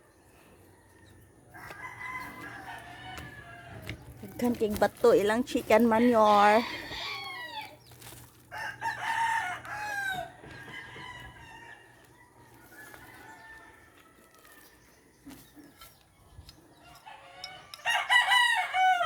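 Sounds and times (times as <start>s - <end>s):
roosters crowing: 0.4s - 15.9s, 16.6s - 19.0s.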